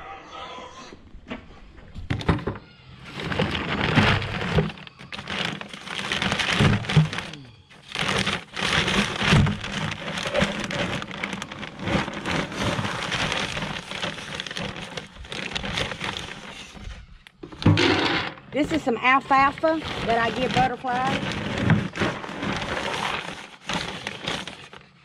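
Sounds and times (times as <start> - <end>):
paper feed bags rustling: 2.1 - 25.0.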